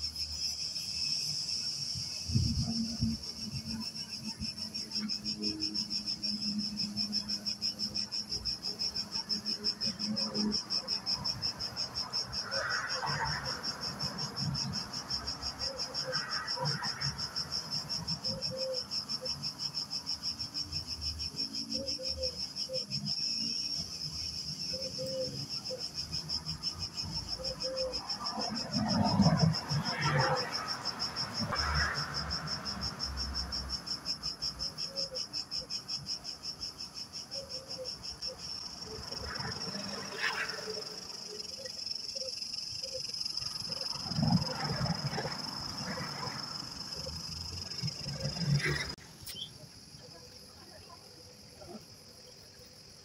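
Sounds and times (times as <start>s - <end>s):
insects chirring: 0.0s - 53.0s.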